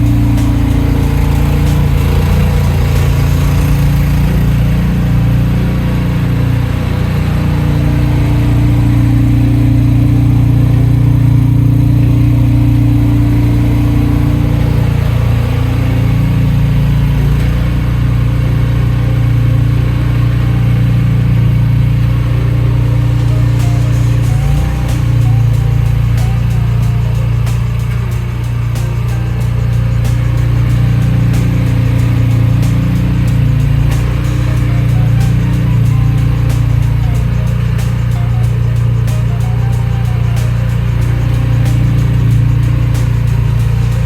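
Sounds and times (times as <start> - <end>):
engine droning: 0.0 - 44.0.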